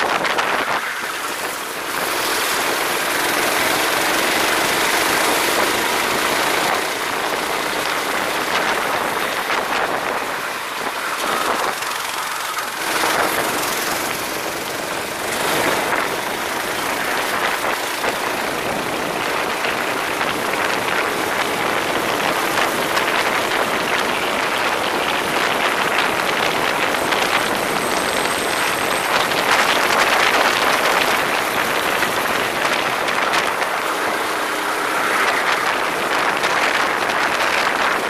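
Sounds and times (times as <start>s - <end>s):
go-kart engine and road noise: 0.0s - 38.0s.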